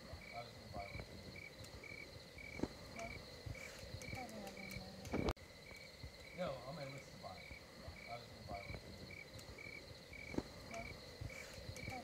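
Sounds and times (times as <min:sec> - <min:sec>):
crickets chirping: 0:00.0 - 0:12.0
high-pitched insect trill: 0:00.0 - 0:12.0.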